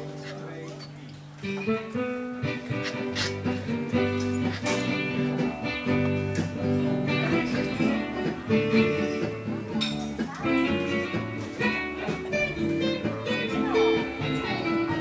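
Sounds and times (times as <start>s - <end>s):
strummed acoustic guitar: 1.4s - 15.0s
bass line: 2.4s - 15.0s.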